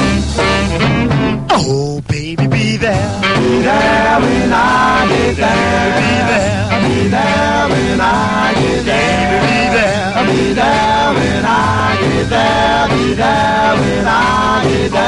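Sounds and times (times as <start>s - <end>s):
song with band and lead vocal: 1.5s - 15.0s.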